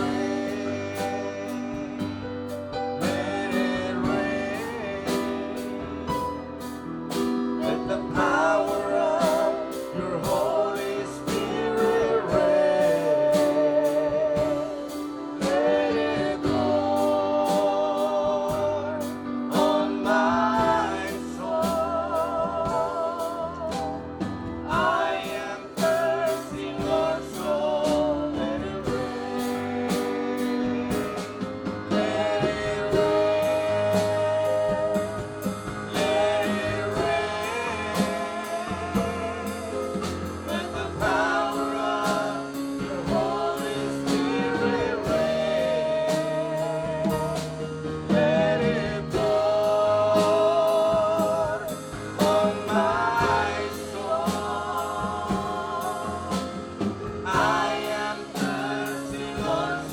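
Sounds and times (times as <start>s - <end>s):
band with steady drum beat: 0.0s - 59.9s.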